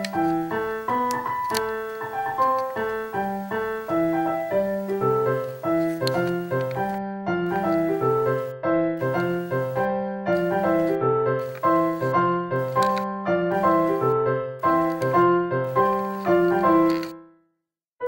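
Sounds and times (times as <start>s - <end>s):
piano music: 0.0s - 17.2s.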